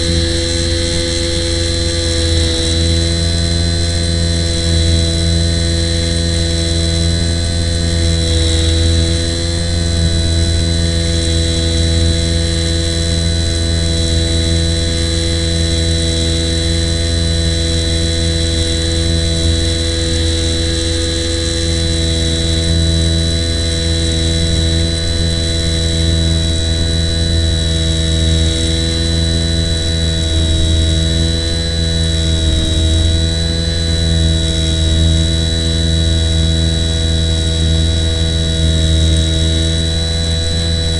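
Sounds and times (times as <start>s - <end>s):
model plane motor droning: 0.0s - 40.9s.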